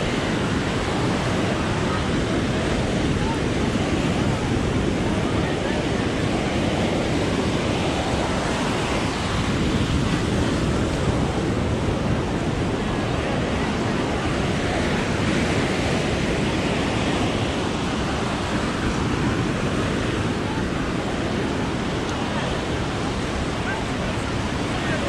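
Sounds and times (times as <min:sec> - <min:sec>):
ocean surf washing onto beach: 0:00.0 - 0:25.0
wind on microphone: 0:00.0 - 0:25.0.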